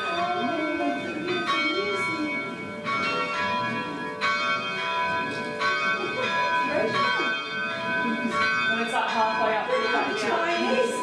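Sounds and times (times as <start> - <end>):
tower bells ringing: 0.0 - 11.0.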